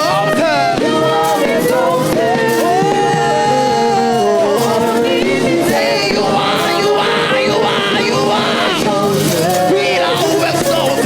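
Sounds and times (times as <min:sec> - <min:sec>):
gospel choir singing: 0:00.0 - 0:11.0
instrumental backing: 0:00.0 - 0:11.0.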